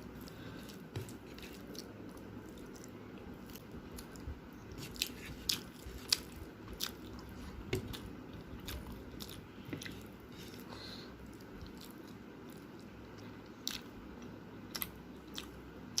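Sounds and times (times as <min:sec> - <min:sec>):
person chewing crunchy food: 0:00.0 - 0:13.9, 0:14.7 - 0:16.0.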